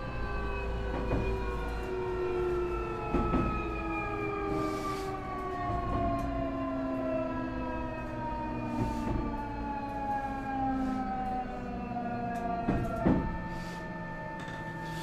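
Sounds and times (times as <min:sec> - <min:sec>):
train running rumble: 0:00.0 - 0:06.7, 0:08.0 - 0:15.0.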